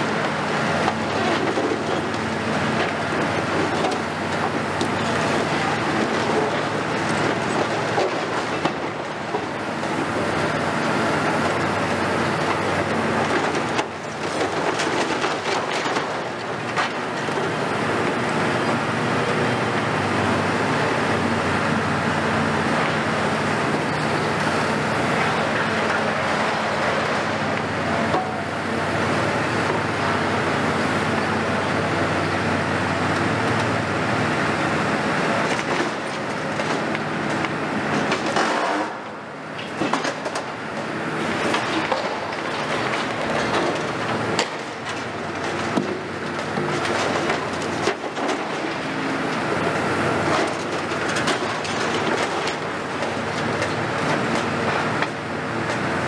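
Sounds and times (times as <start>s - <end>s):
excavator diesel engine and hydraulics: 0.0s - 56.0s.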